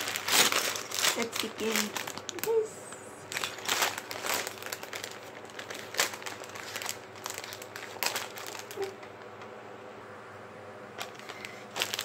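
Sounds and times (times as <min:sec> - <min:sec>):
plastic bag crinkling: 0:00.0 - 0:09.3, 0:11.0 - 0:12.0.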